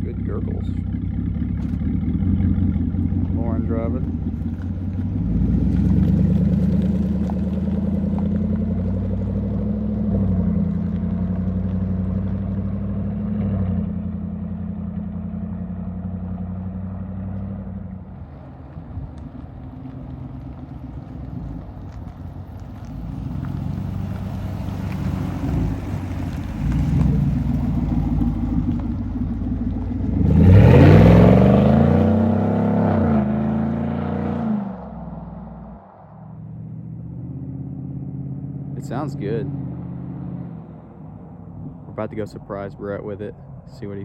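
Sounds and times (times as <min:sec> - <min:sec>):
truck engine and exhaust running: 0:00.0 - 0:44.0.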